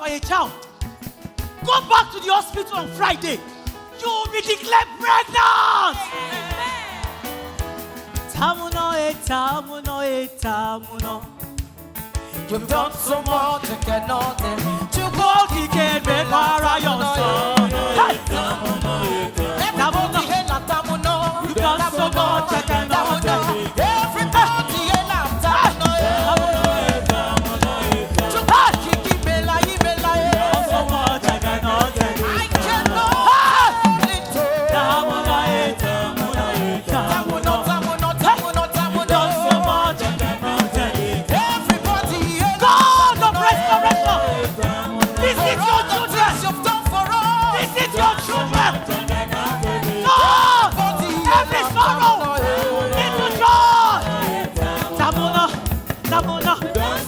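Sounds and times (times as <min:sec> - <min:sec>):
gospel band percussion beat: 0:00.0 - 0:57.0
people singing: 0:01.6 - 0:11.5, 0:12.3 - 0:57.0.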